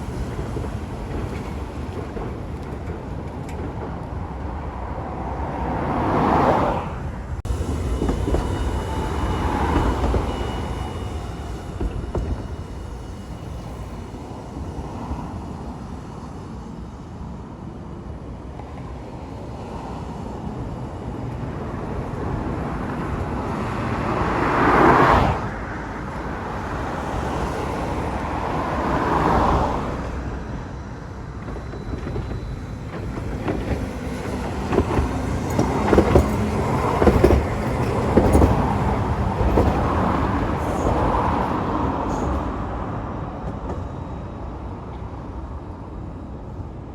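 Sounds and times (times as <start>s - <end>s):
rushes of train noise: 0.0s - 46.9s
train rumbling: 0.0s - 46.9s.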